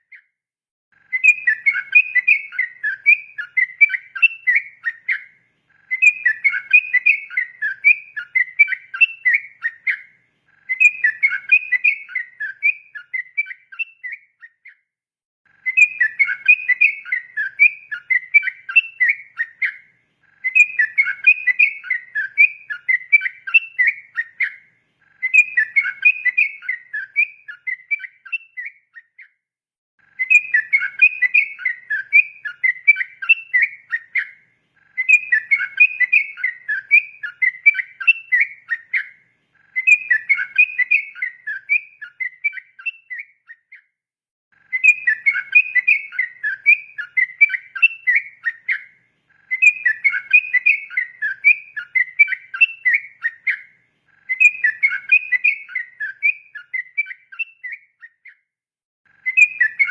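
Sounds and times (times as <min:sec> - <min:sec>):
bulbul singing: 0:01.0 - 0:14.8, 0:15.5 - 0:29.4, 0:30.1 - 0:43.9, 0:44.6 - 0:58.4, 0:59.1 - 0:59.9.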